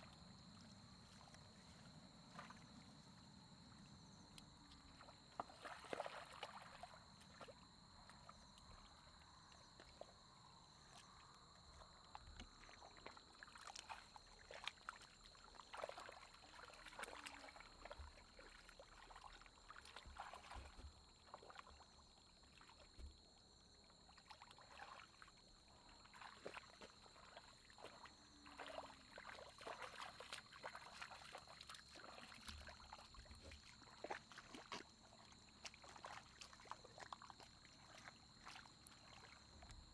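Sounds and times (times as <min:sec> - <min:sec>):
splashing in muddy water: 0:00.0 - 0:39.9.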